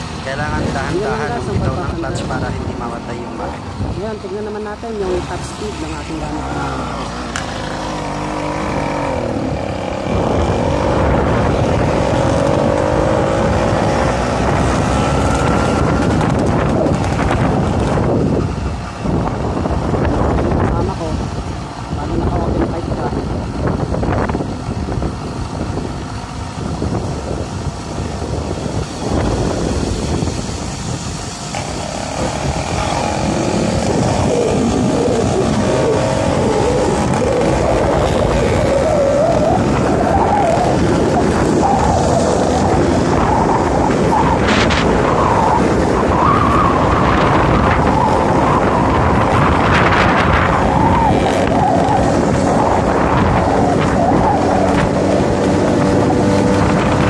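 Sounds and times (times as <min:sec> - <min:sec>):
two-stroke engine running under load: 0:00.0 - 0:57.0
wind rushing over microphone: 0:00.0 - 0:57.0.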